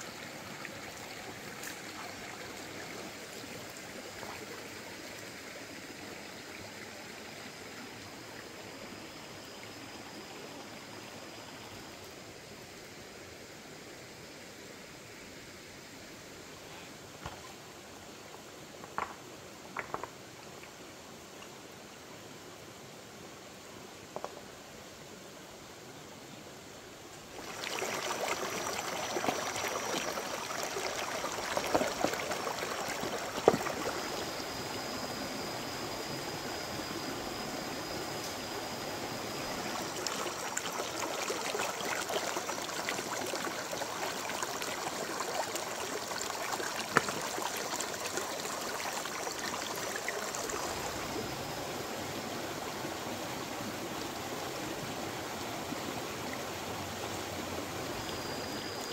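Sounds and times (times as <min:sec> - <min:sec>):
stream running over stones: 0:00.0 - 0:22.6, 0:26.6 - 0:58.9.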